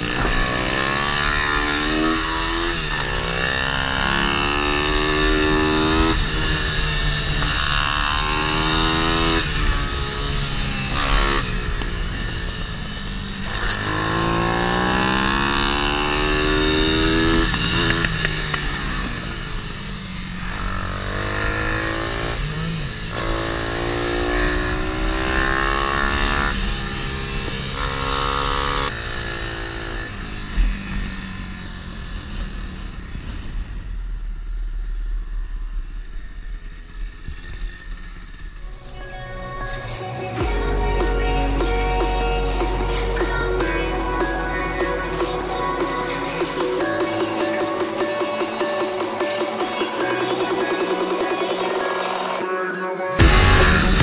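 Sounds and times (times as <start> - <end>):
pit bike engine revving: 0.0 - 52.5, 53.2 - 54.0.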